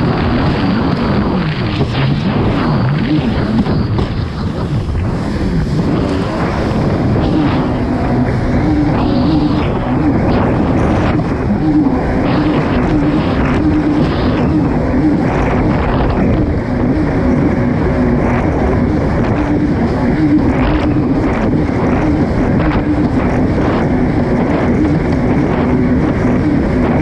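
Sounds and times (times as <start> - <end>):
watercraft engine running hard: 0.0 - 27.0
wind noise on microphone: 0.0 - 27.0.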